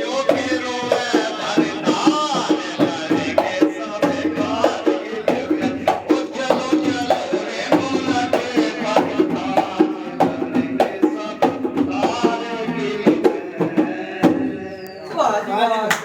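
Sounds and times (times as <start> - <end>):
dhol drum beat: 0.0 - 14.7
person singing: 0.0 - 15.1.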